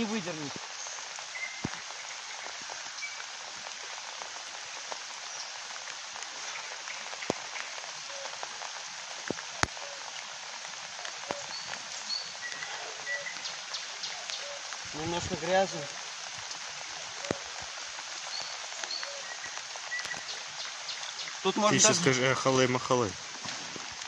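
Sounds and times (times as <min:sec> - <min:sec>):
rain pattering on wet ground: 0:00.0 - 0:24.0.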